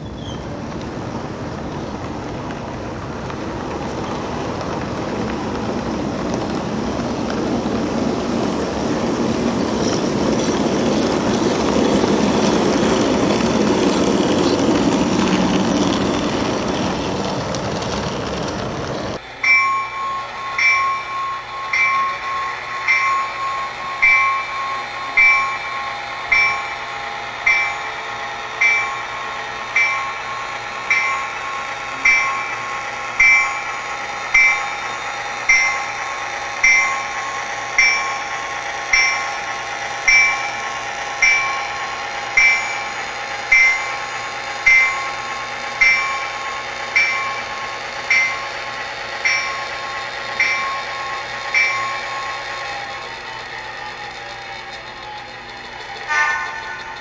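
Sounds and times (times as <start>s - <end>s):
model train clicking: 0.0s - 57.0s
steady hum: 1.0s - 57.0s.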